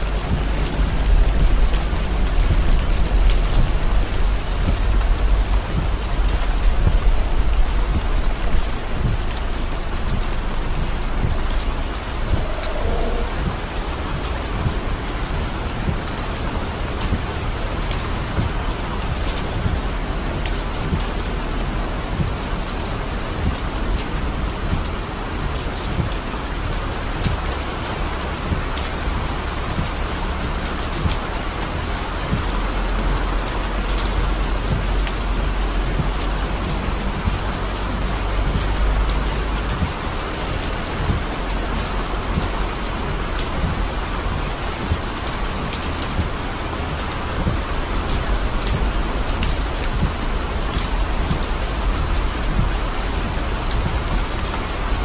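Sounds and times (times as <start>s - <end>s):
heavy rain on car roof: 0.0s - 55.0s
low rumble of moving car: 0.0s - 55.0s.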